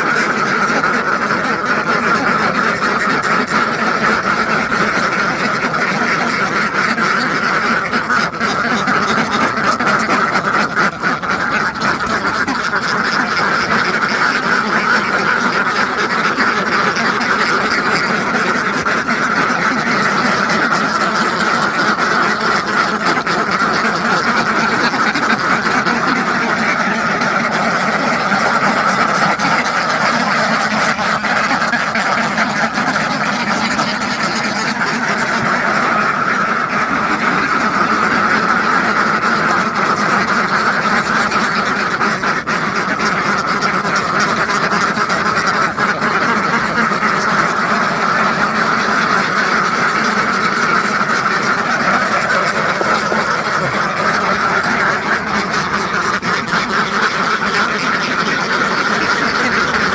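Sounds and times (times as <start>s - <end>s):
flock of ducks quacking: 0.0s - 59.9s.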